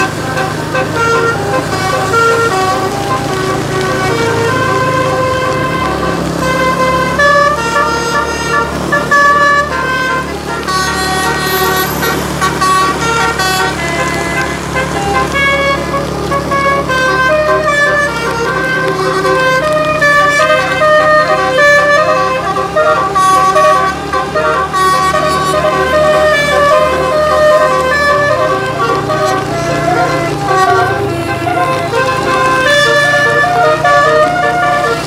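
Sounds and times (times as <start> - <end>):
multi-tone bus horn melody: 0.0 - 35.0.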